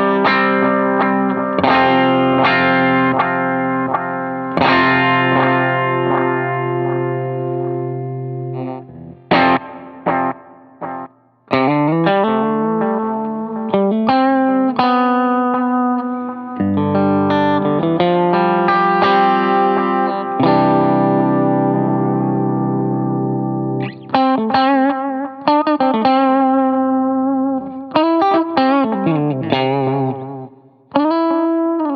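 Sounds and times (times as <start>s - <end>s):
electric guitar with echoing delay: 0.0s - 31.9s.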